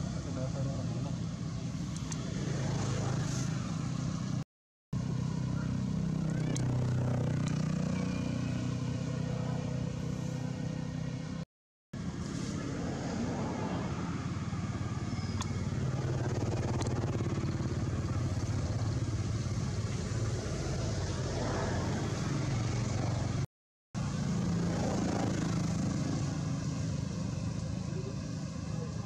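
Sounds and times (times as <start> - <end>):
vehicle engine humming: 0.0 - 4.4, 5.0 - 11.4, 12.0 - 29.0.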